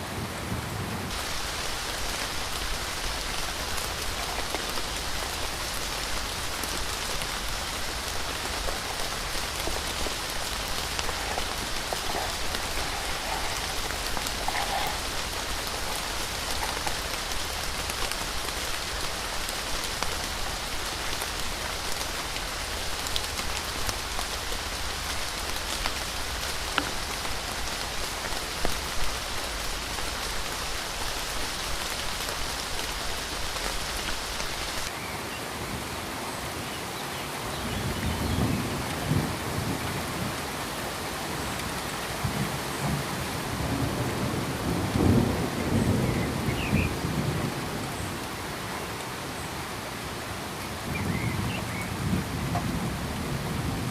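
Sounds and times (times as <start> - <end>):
rain pattering: 0.0 - 35.0, 37.4 - 53.9.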